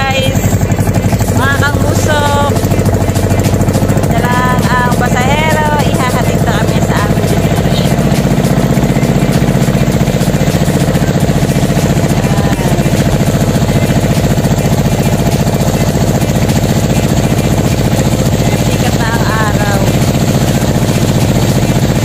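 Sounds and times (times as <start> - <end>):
motorboat engine drone: 0.0 - 22.0.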